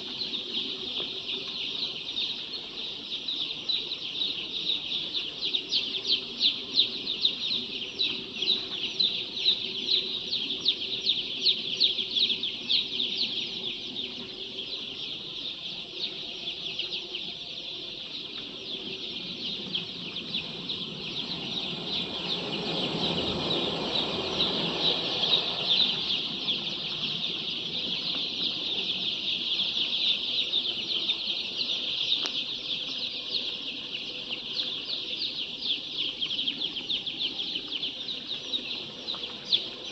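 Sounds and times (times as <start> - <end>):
chicks cheeping: 0.0 - 39.9.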